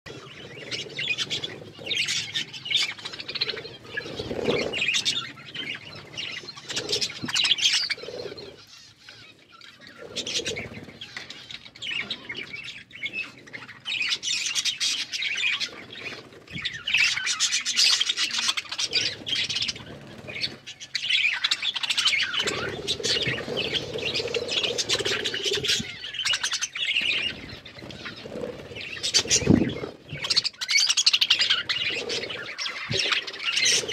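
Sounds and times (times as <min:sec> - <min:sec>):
budgerigars chattering and chirping: 0:00.1 - 0:33.9.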